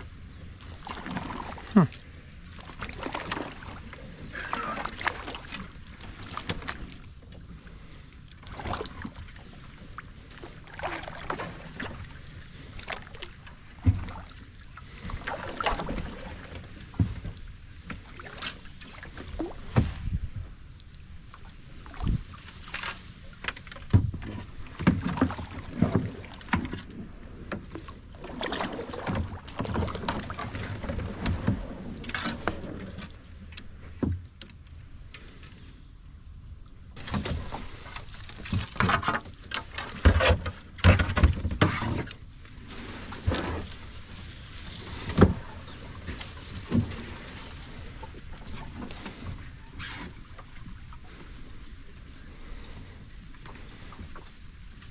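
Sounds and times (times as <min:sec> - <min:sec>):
paddle strokes in water: 0:00.0 - 0:54.9.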